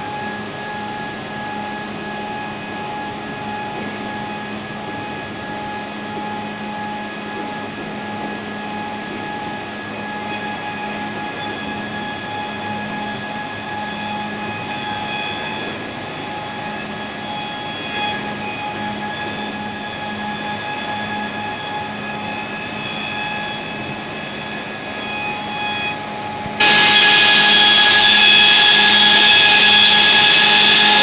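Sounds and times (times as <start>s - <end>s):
planer machine humming and whining: 0.0s - 31.0s.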